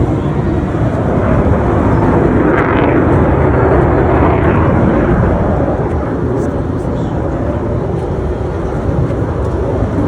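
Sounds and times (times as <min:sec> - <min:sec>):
jet engine roar: 0:00.0 - 0:10.0.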